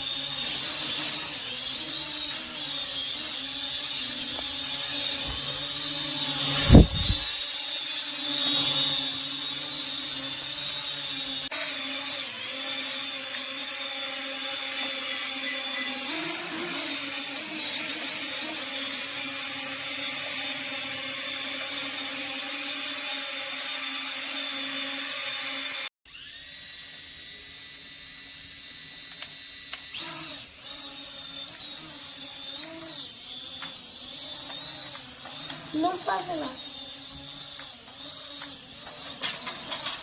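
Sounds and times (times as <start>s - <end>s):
drone propeller motors whining: 0.0s - 40.0s.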